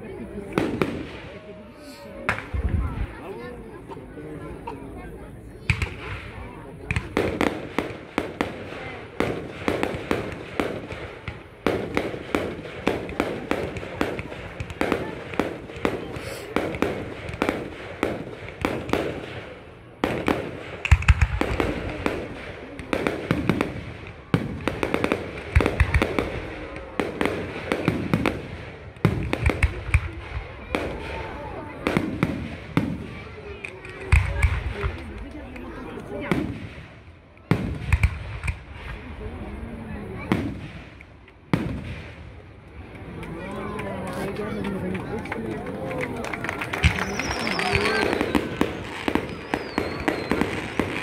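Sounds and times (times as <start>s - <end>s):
fireworks bangs and crackles: 0.0s - 51.0s
deep fireworks booms: 0.4s - 1.5s, 5.6s - 42.6s, 46.0s - 51.0s.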